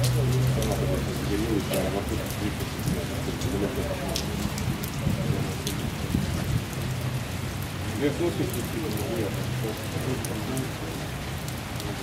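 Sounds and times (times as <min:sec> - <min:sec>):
rain on wet paving: 0:00.0 - 0:12.0.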